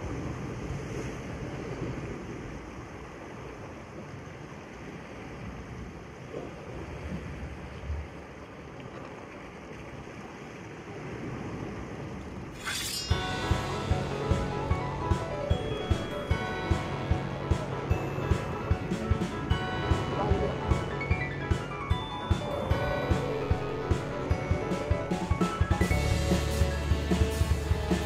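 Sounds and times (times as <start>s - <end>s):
sea surf: 0.0s - 28.0s
wind: 0.0s - 28.0s.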